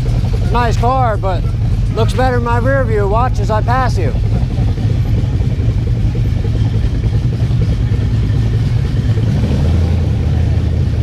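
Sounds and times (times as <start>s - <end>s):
car engines rumbling in traffic: 0.0s - 11.0s.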